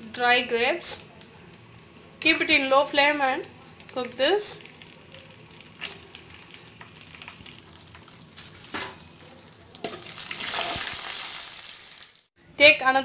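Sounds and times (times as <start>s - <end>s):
nuts sizzling in hot oil: 0.4s - 12.3s
sharp frying ticks: 0.8s - 12.3s.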